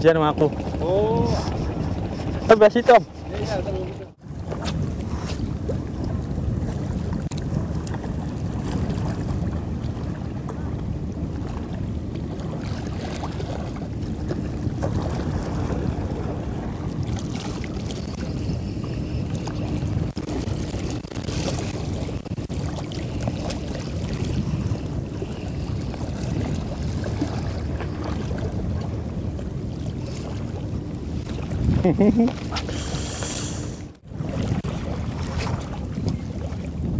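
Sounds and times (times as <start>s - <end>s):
choppy sea water: 0.0s - 36.9s
wind rumbling on microphone: 0.0s - 36.9s
steady low hum: 0.1s - 36.9s.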